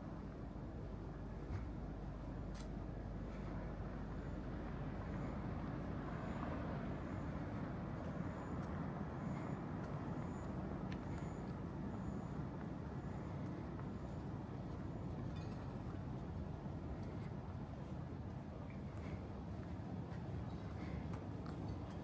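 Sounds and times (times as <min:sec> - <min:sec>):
vehicle engine and tyre rumble: 0:00.0 - 0:22.0.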